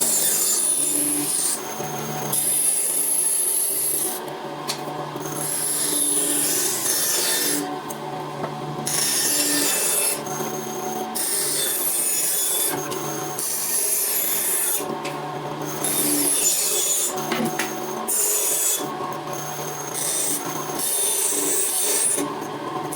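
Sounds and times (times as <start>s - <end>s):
steady motor hum: 0.0s - 22.9s.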